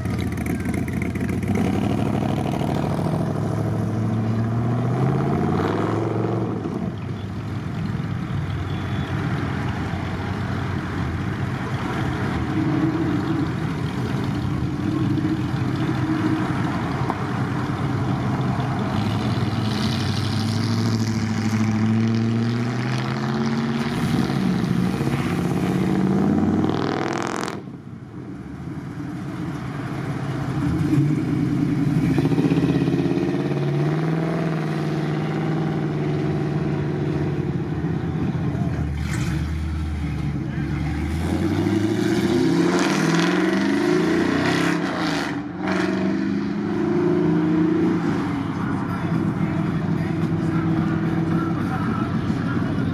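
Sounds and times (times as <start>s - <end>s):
car engines accelerating: 0.0s - 52.9s
road noise: 0.0s - 52.9s.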